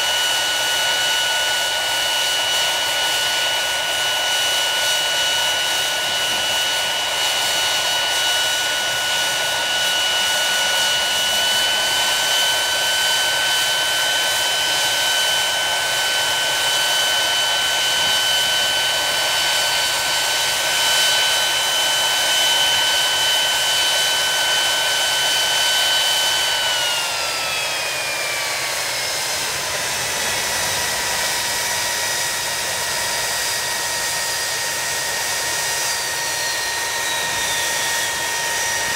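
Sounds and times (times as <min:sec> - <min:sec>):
jet engine exhaust rushing: 0:00.0 - 0:38.9
jet engine high whine: 0:00.0 - 0:38.9.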